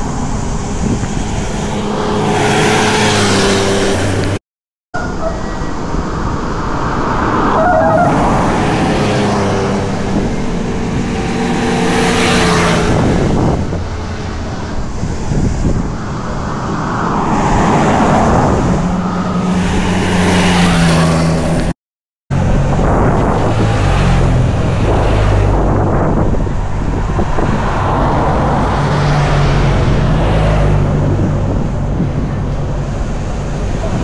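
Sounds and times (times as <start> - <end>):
cars passing by: 0.0 - 4.4, 5.0 - 34.0.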